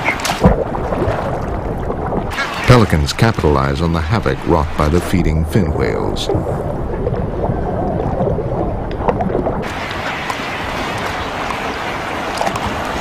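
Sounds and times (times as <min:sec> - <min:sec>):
seawater churning and splashing: 0:00.0 - 0:13.0.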